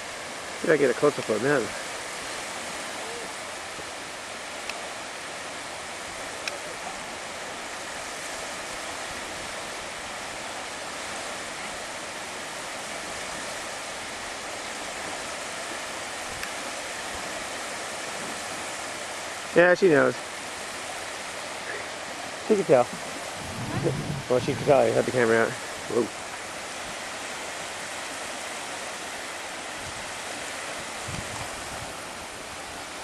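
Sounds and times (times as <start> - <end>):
surf washing onto sand: 0.0 - 33.0.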